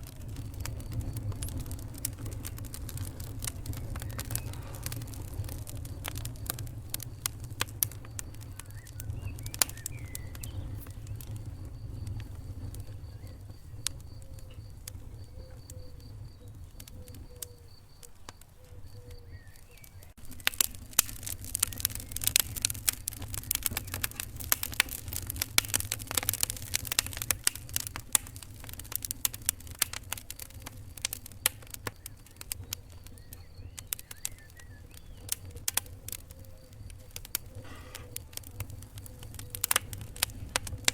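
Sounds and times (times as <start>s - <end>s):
low rumble of flame: 0.0s - 40.9s
wood fire crackling: 0.0s - 40.9s.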